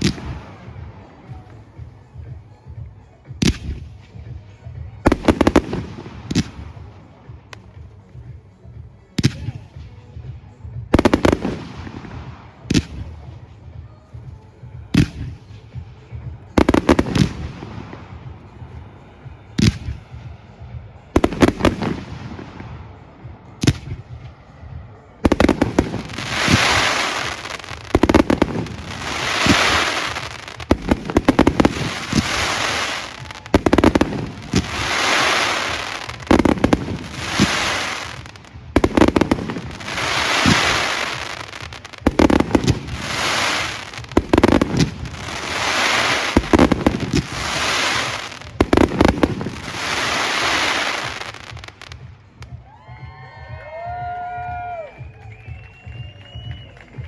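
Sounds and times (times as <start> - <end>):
fireworks sharp reports: 0.0 - 52.6
crackling fireworks: 0.0 - 57.0.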